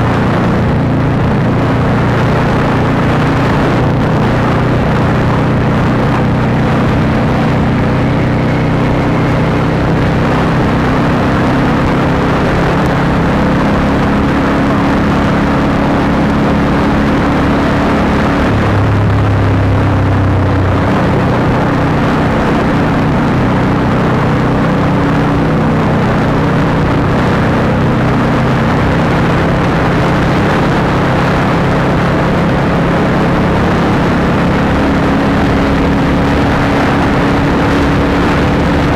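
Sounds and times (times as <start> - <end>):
motorcycle exhaust note: 0.0 - 38.9
wind and road rush: 0.0 - 38.9.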